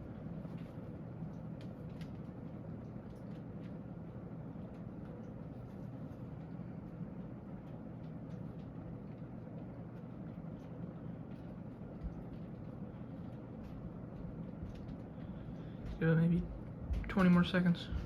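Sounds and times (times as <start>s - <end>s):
ceiling fan motor hum: 0.0s - 18.0s
rush of air from fan blades: 0.0s - 18.0s.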